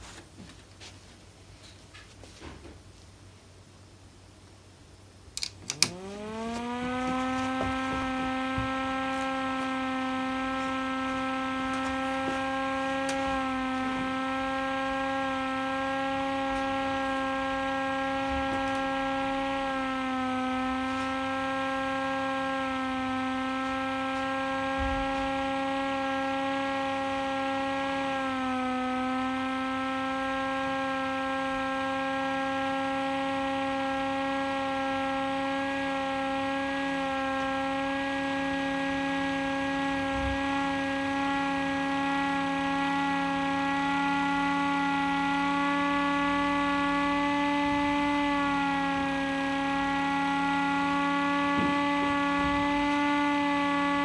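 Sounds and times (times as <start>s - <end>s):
motor siren wailing: 5.4s - 54.0s.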